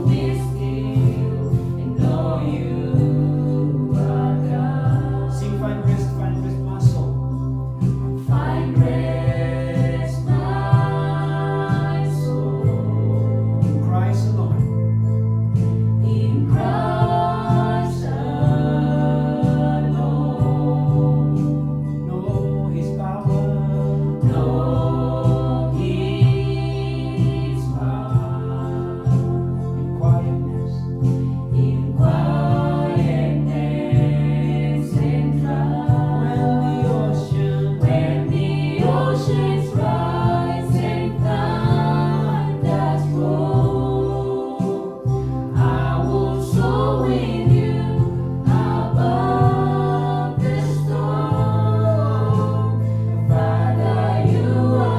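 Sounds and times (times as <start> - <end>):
band with bass and keyboard: 0.0 - 54.9
group singing a worship song: 0.0 - 54.9.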